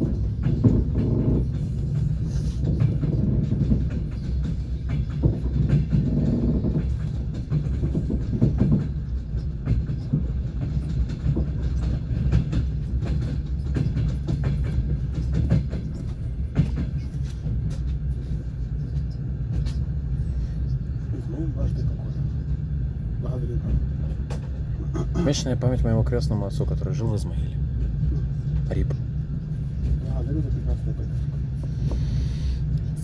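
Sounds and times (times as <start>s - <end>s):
low rumble of moving carriage: 0.0s - 33.0s
train wheels clattering on rails: 0.0s - 33.0s.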